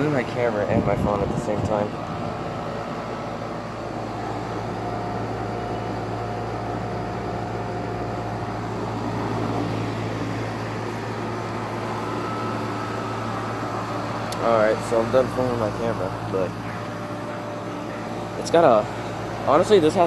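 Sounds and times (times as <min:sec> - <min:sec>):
compressor humming: 0:00.0 - 0:20.0
condenser fan rushing: 0:00.0 - 0:20.0
faint high whine: 0:03.0 - 0:20.0.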